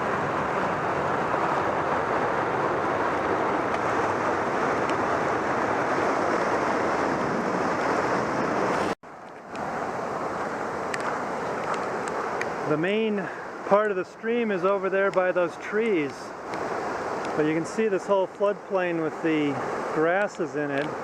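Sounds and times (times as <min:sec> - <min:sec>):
creek rushing: 0:00.0 - 0:21.0.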